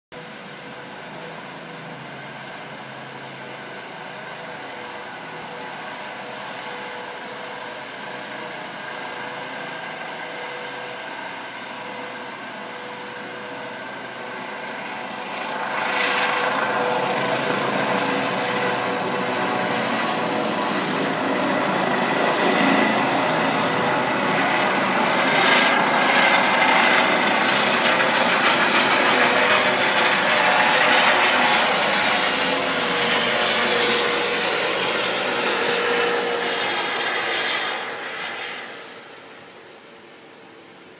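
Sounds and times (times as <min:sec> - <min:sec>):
helicopter turbine and rotor: 0:00.2 - 0:40.9.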